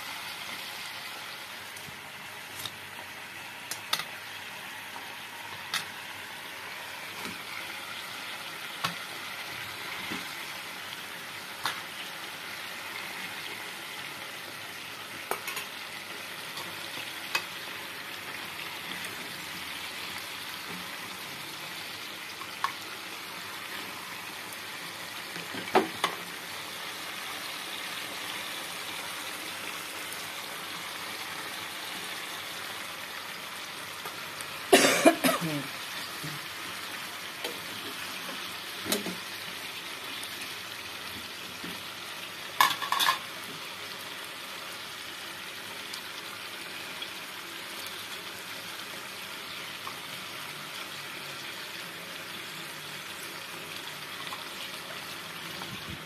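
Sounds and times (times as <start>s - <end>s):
meat frying in a pan: 0.0s - 56.0s.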